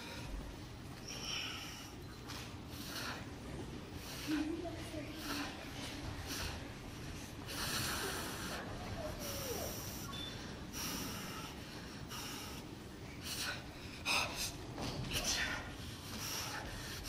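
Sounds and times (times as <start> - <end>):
man breathing forcefully: 0.0 - 17.0.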